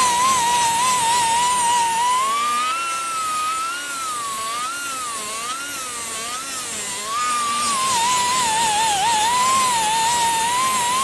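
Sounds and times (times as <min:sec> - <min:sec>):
pneumatic sander whining: 0:00.0 - 0:11.0.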